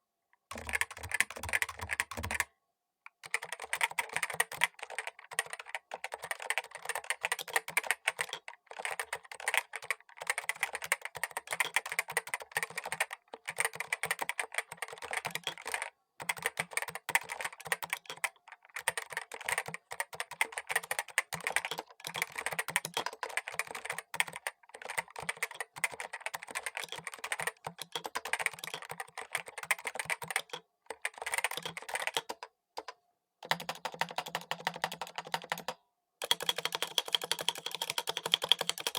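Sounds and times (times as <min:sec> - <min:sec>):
fast keyboard typing: 0:00.5 - 0:02.5, 0:03.2 - 0:38.9.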